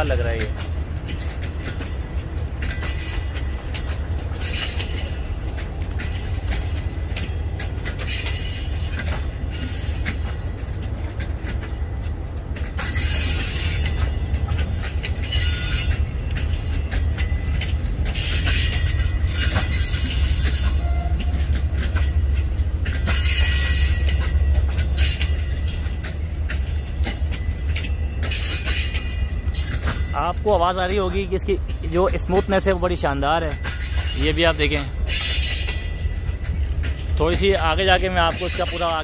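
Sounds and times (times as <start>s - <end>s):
passenger train rolling past: 0.0s - 39.0s
wheel-on-rail noise: 0.0s - 39.0s.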